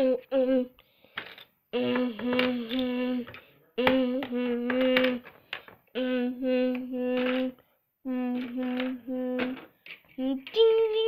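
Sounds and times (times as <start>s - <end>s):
child humming held notes: 0.0s - 0.8s, 1.7s - 5.3s, 5.9s - 11.0s.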